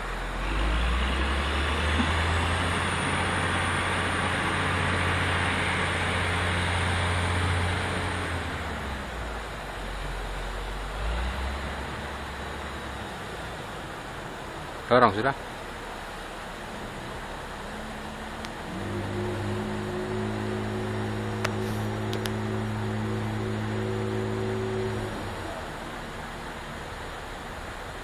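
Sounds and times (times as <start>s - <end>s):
diesel truck engine under load: 0.0s - 28.0s
high thin whine: 0.0s - 28.0s.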